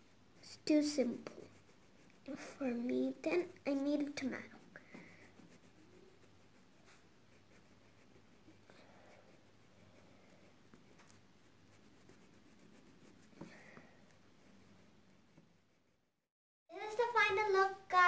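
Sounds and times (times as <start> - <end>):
oil pastel scratching on paper: 0.0 - 16.1.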